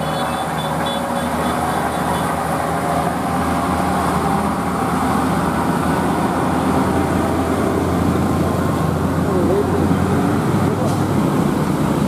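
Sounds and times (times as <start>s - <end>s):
motorcycle engines: 0.0s - 12.0s
truck diesel engine droning: 0.0s - 12.0s.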